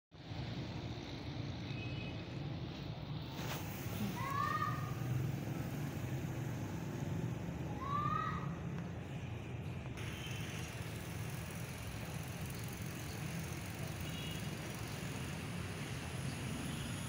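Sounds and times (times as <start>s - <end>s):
outdoor hiss: 0.2s - 8.2s, 10.0s - 17.0s.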